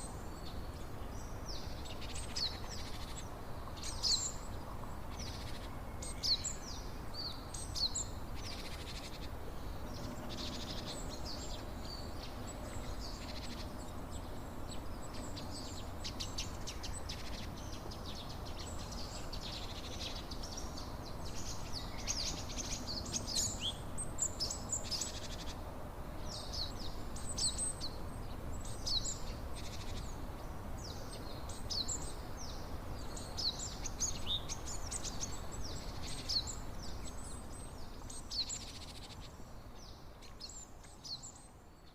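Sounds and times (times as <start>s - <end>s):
songbirds chirping and singing: 0.0s - 41.9s.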